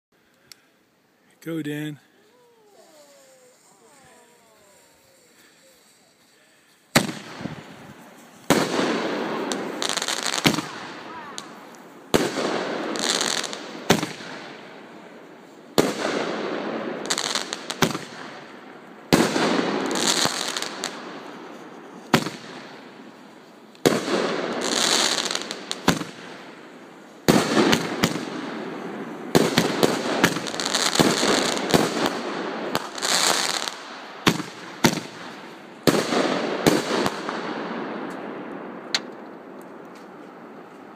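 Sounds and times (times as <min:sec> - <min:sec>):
firework crackling: 0:02.2 - 0:39.5.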